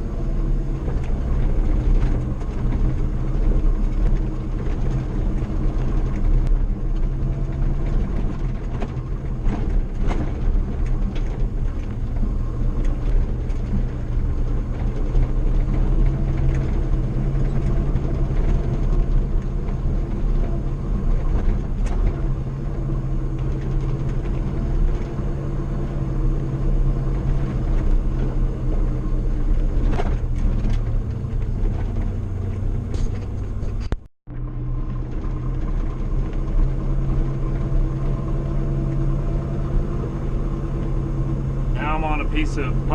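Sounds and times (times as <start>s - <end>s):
truck engine and road hum: 0.0s - 42.9s.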